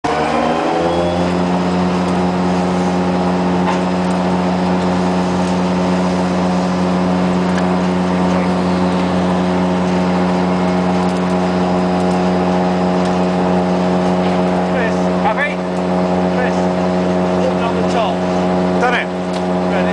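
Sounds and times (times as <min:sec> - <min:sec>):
heavy machinery droning hum: 0:00.0 - 0:19.9.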